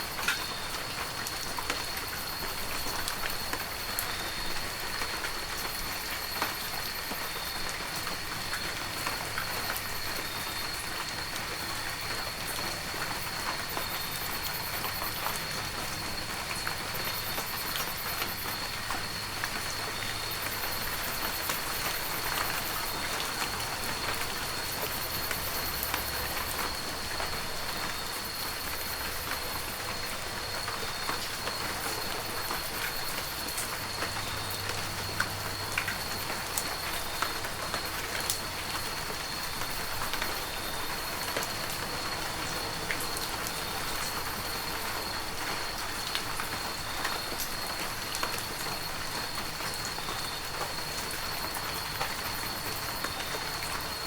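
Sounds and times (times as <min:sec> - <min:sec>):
heavy rain falling: 0:00.0 - 0:54.0
sharp close raindrops: 0:00.0 - 0:54.0.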